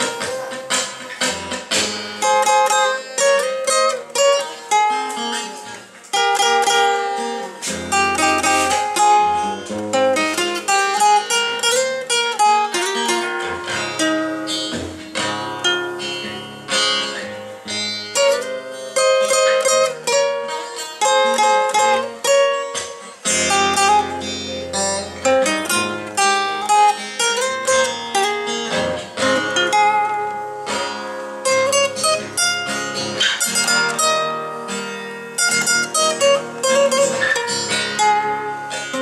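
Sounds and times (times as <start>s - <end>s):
solo guitar picking: 0.0s - 39.0s.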